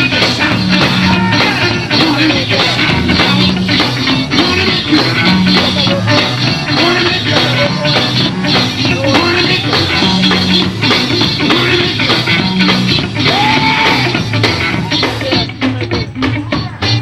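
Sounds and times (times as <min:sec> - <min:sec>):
bass: 0:00.0 - 0:17.0
drum beat: 0:00.0 - 0:17.0
electric guitar: 0:00.0 - 0:17.0
person singing: 0:00.0 - 0:17.0.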